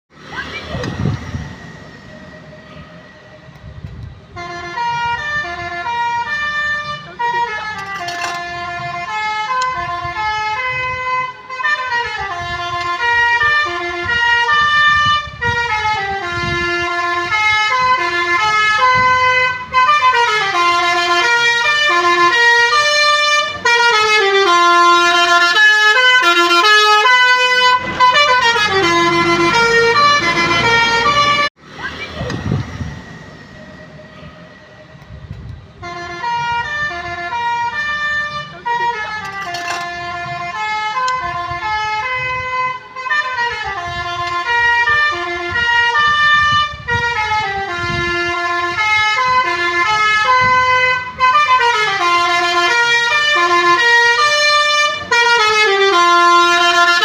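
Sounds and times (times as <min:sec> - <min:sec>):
multi-tone bus horn tune: 0:02.5 - 0:31.5, 0:32.9 - 0:57.0.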